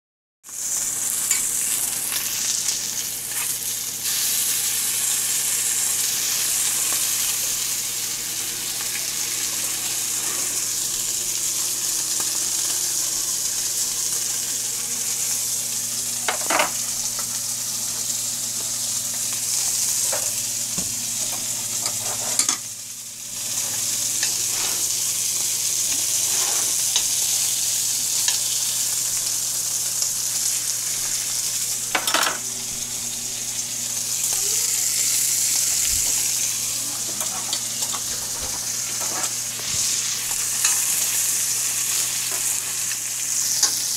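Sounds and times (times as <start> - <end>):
pork chops sizzling in a frying pan: 0.4 - 43.9.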